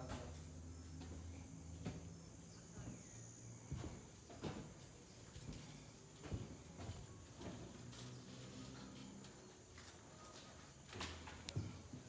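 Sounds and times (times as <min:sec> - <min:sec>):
high insect drone: 0:00.1 - 0:10.0.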